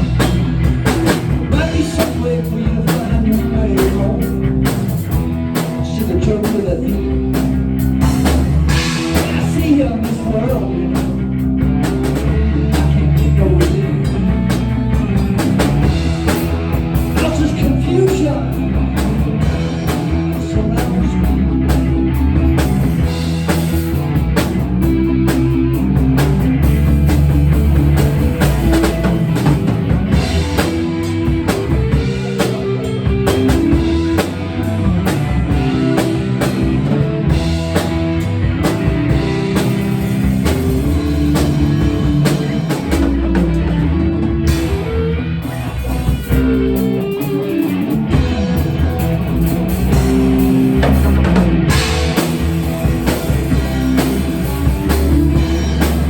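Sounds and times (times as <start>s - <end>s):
rock music with drums and guitar: 0.0s - 56.0s.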